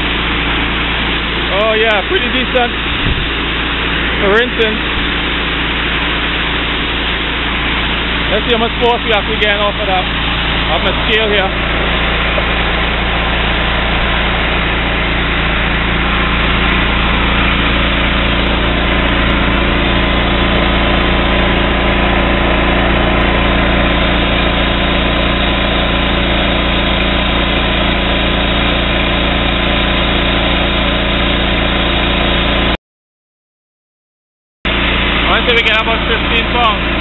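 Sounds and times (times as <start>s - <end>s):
pressure washer engine running: 0.0s - 32.8s, 34.7s - 37.0s.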